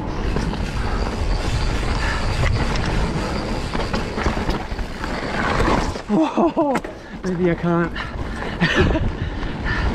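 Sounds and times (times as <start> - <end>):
bike rattling and clicking: 0.0 - 9.9
bike tyres rumbling over dirt: 0.0 - 9.9.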